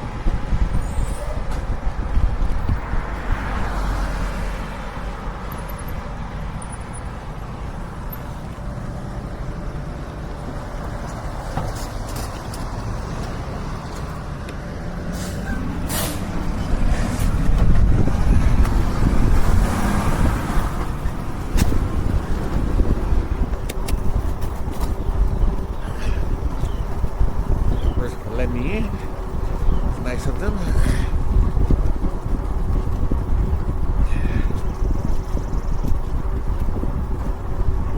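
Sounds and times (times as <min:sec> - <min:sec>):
wind buffeting microphone: 0:00.0 - 0:37.9.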